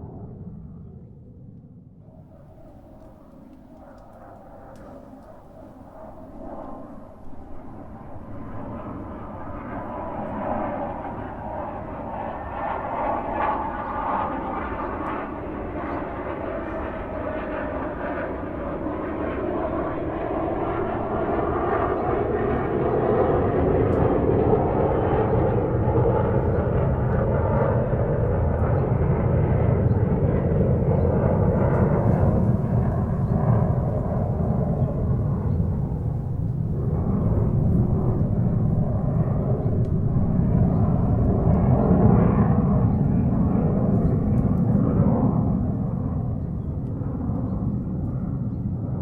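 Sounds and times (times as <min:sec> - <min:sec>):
airplane engines roaring in cabin: 0:00.0 - 0:49.0.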